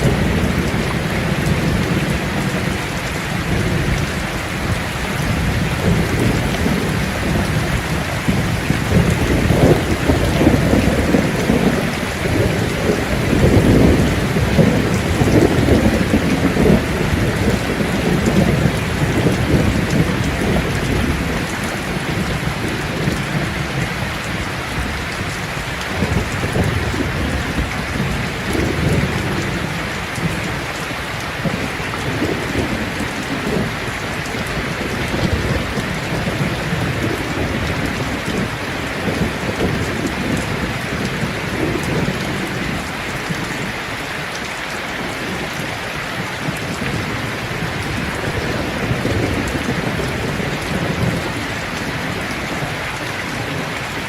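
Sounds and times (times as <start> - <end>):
thunder rumbling: 0.0 - 44.4, 45.0 - 54.0
heavy rain pattering: 0.0 - 54.0.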